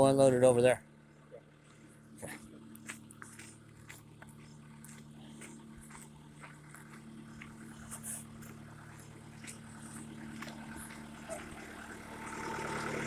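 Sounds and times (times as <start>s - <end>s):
backhoe engine idling: 0.0s - 13.0s.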